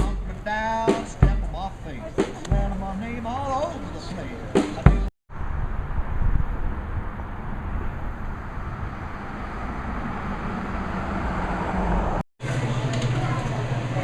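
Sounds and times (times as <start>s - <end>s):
vehicle rumble and road noise: 0.0s - 14.0s.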